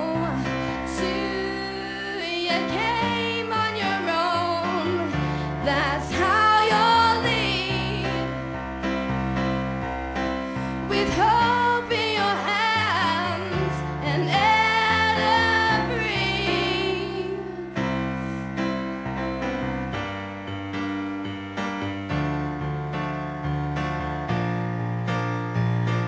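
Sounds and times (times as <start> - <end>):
electric keyboard piano chords: 0.0 - 26.0.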